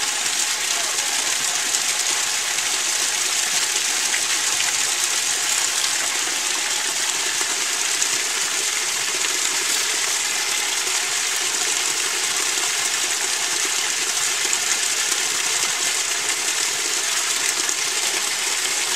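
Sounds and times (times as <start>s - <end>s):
water splashing into stone basins: 0.0s - 18.9s.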